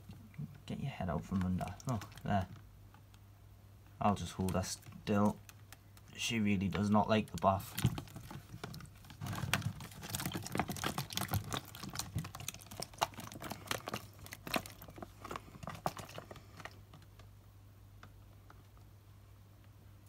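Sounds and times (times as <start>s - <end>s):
hands handling gecko in water: 0.0s - 3.2s, 4.1s - 17.4s.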